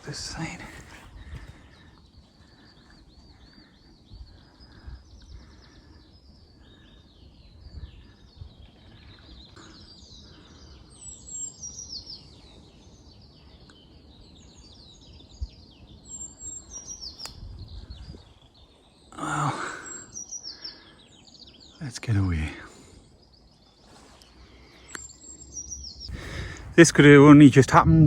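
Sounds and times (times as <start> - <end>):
songbirds chirping and trilling: 0.0 - 28.0.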